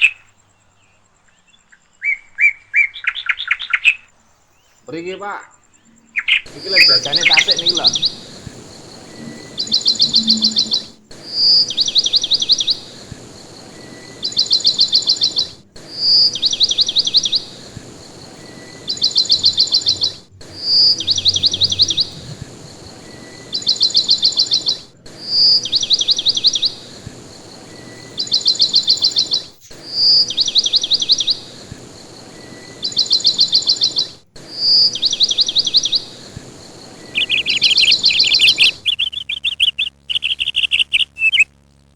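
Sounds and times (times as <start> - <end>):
bird call with trill: 5.8 - 31.7, 32.3 - 36.4, 37.0 - 41.5.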